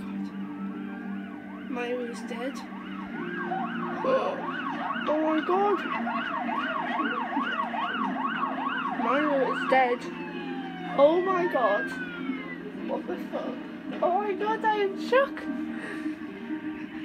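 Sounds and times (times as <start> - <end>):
emergency vehicle sirens wailing: 0.0 - 17.0.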